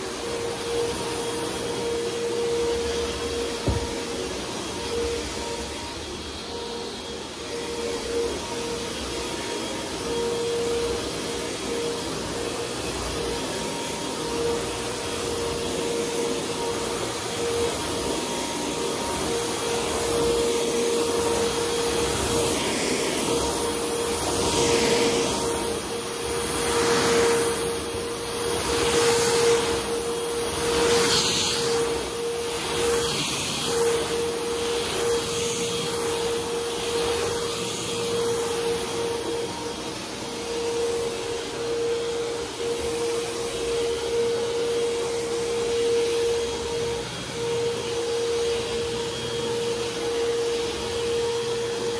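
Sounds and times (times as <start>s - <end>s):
vacuum cleaner on carpet: 0.0s - 51.9s.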